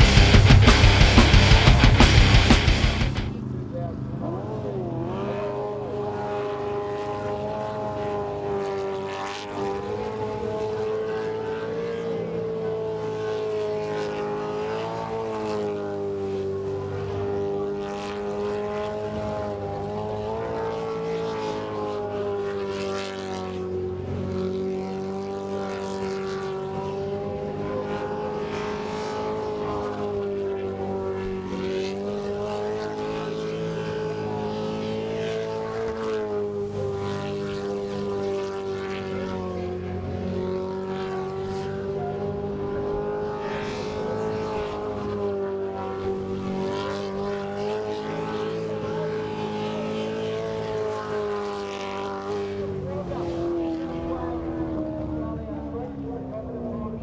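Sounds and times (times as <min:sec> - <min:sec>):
boat engine at high revs: 0:00.0 - 0:03.4, 0:04.6 - 0:56.7.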